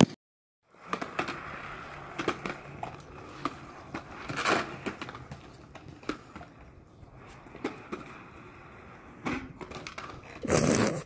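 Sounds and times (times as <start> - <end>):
plastic wheels rolling on concrete: 0.7 - 11.0.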